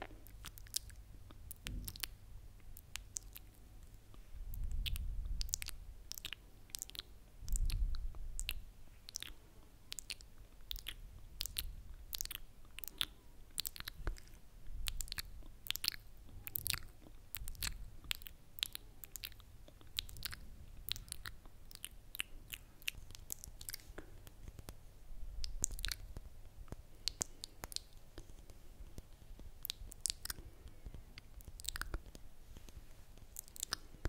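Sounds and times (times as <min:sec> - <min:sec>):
wet mouth clicks and lip smacks: 0:00.0 - 0:24.8, 0:25.4 - 0:34.0.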